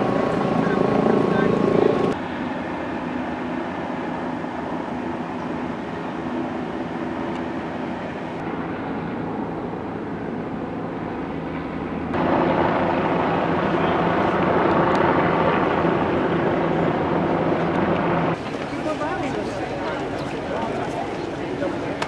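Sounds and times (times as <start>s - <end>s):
mechanical drone with low hum: 0.0s - 18.6s.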